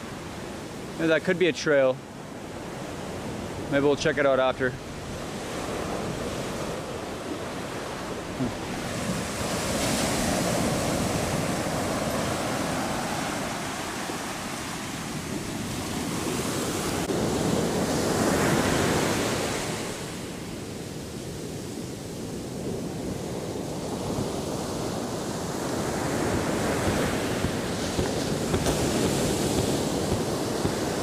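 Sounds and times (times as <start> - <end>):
ocean surf washing onto beach: 0.0 - 31.0.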